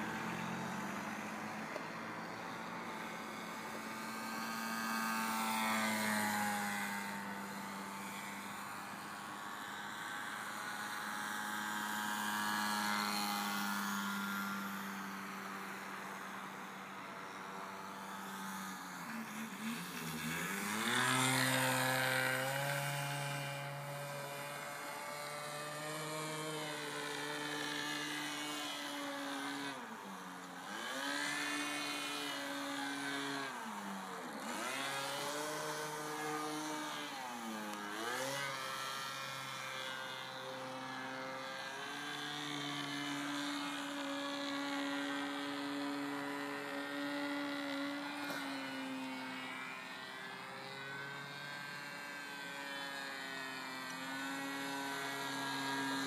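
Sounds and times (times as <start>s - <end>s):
model aeroplane engine: 0.0s - 56.0s.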